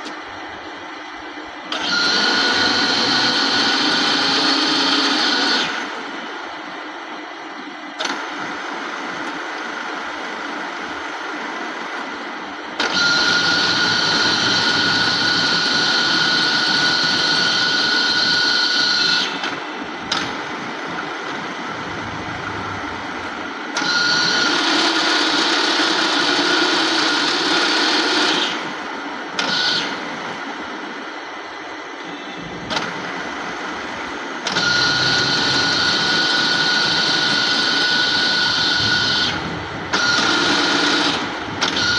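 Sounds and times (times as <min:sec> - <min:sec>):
high steady whine: 0:00.0 - 0:41.9
milling machine running: 0:00.0 - 0:41.9.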